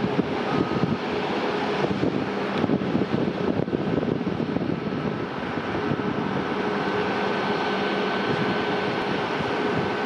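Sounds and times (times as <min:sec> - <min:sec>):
distant turboprop engines droning: 0:00.0 - 0:10.0
high whine: 0:00.0 - 0:10.0.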